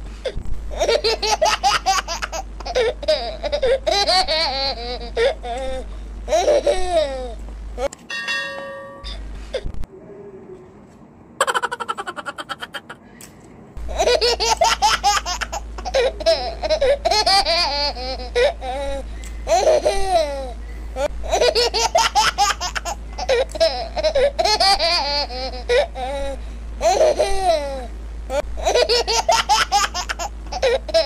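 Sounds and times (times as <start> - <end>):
steady low hum: 0.0 - 31.0
baby-like giggling: 0.3 - 7.3, 11.4 - 13.0, 13.9 - 31.0.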